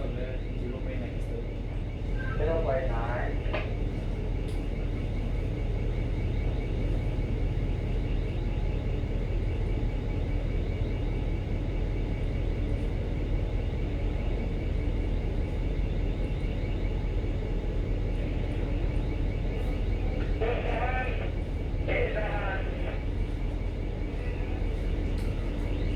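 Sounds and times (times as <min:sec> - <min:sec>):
ship machinery drone: 0:00.0 - 0:25.9.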